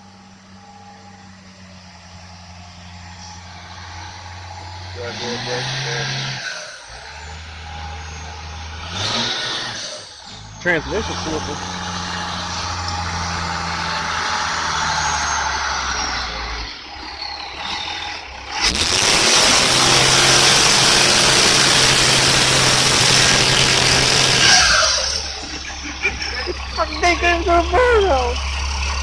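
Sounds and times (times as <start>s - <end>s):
diesel pickup engine revving: 0.0s - 29.0s.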